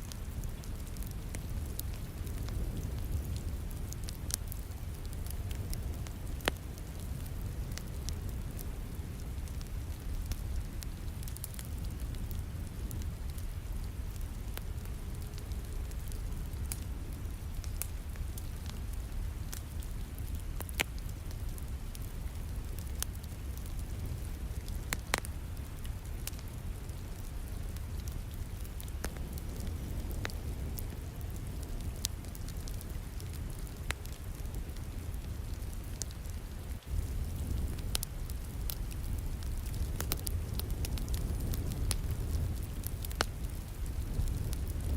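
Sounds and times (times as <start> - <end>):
falling rain: 0.0 - 44.9
wood fire crackling and popping: 0.0 - 44.9.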